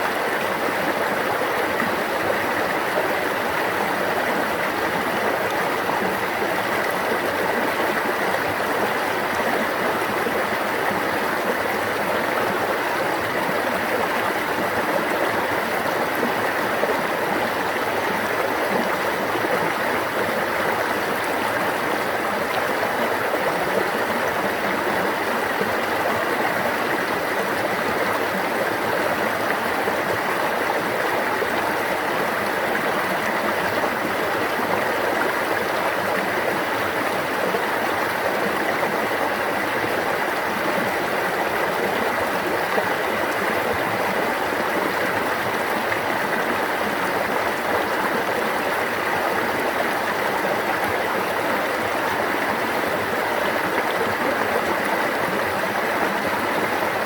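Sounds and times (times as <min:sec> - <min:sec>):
running water stream: 0:00.0 - 0:57.0.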